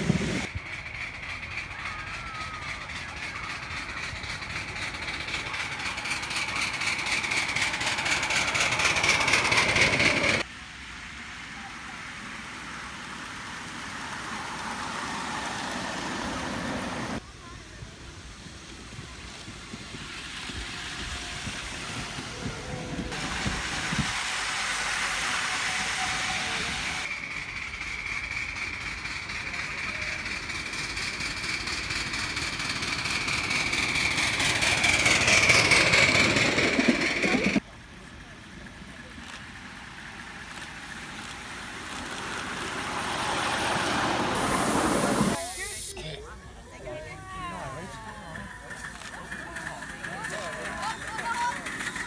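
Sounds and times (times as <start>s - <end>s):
miniature steam locomotive running: 0.0s - 52.0s
train wheels clicking over rail joints: 0.1s - 10.5s, 18.0s - 45.4s, 47.6s - 52.0s.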